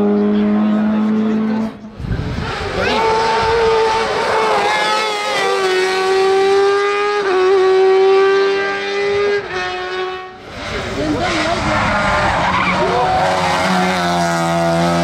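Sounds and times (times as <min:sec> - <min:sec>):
high-revving racing engine: 0:00.0 - 0:15.0.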